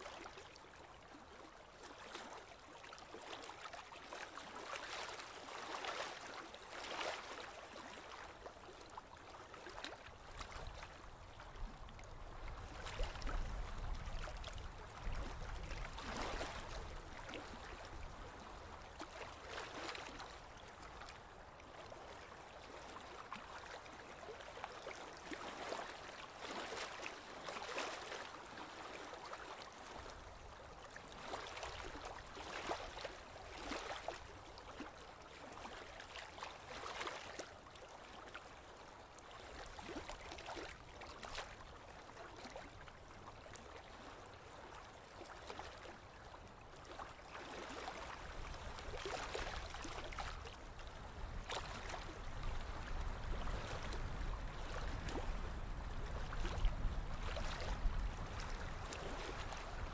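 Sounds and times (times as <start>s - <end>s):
water lapping against boat hull: 0.0s - 59.9s.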